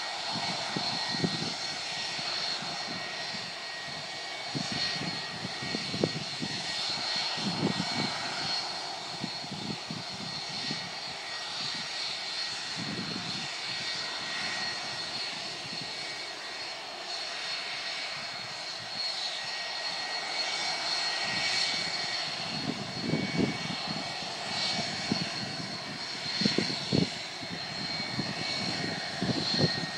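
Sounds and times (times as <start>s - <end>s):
distant jet engines whining: 0.0s - 29.9s.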